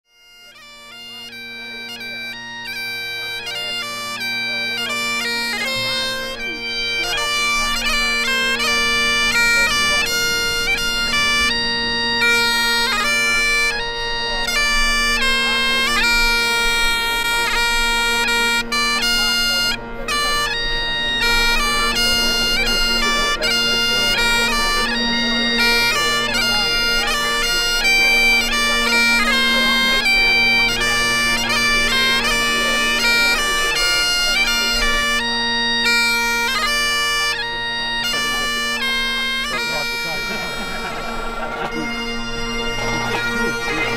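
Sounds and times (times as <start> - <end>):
bagpipes playing a tune: 0.0 - 43.9.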